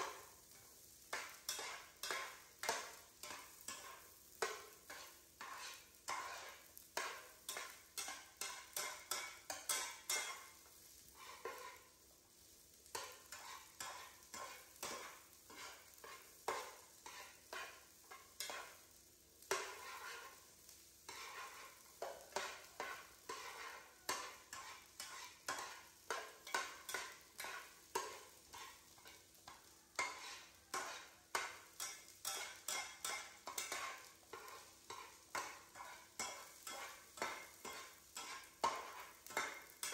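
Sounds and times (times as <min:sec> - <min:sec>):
frying sizzle: 0:00.0 - 0:39.9
metal spatula scraping a pan: 0:00.0 - 0:39.9.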